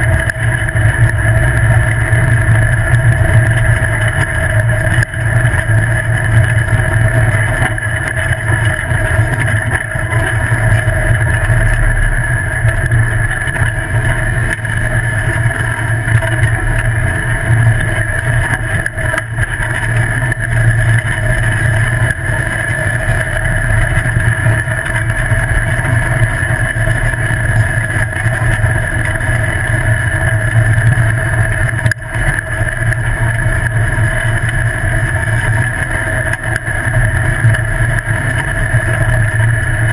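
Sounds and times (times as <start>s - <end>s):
buggy engine drone: 0.0s - 39.9s
rolling tyre noise: 0.0s - 39.9s.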